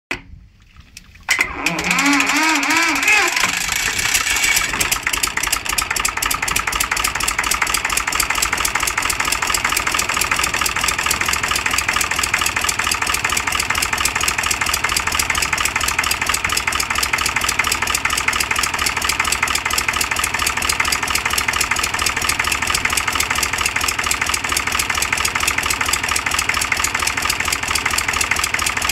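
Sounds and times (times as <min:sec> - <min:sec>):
diesel engine clattering: 0:01.6 - 0:28.9.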